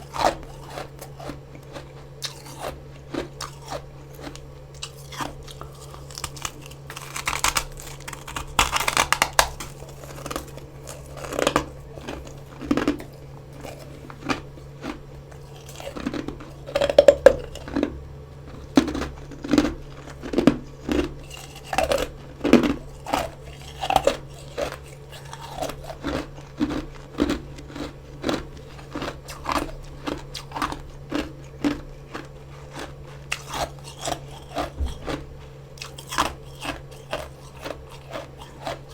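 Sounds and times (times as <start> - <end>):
crunchy chewing: 0.0 - 38.9
low steady hum: 0.0 - 38.9.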